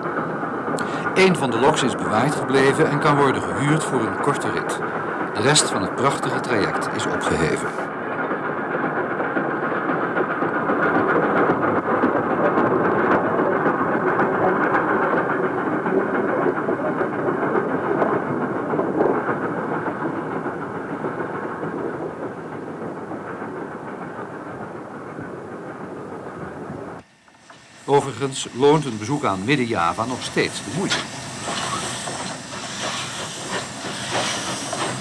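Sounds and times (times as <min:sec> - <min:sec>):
steam locomotive exhaust: 0:00.0 - 0:35.0.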